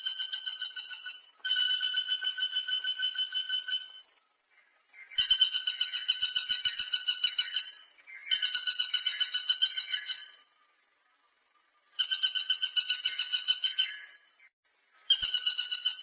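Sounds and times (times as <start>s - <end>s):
woodpecker calling: 0.0s - 10.6s, 11.9s - 16.0s.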